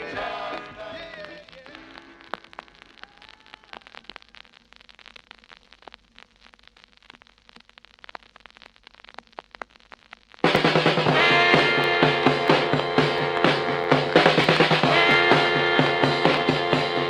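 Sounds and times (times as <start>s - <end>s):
faint vinyl hiss: 0.0s - 17.0s
vinyl crackles and pops: 0.0s - 17.0s.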